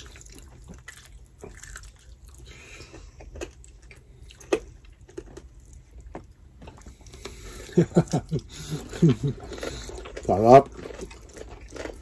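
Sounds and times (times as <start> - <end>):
crispy pork torn and chewed: 0.0 - 7.4, 8.1 - 12.0.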